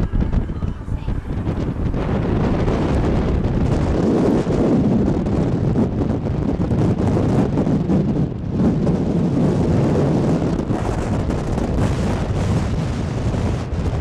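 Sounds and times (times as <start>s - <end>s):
moving vehicle rumble: 0.0s - 14.0s
wind buffeting microphone: 0.0s - 14.0s.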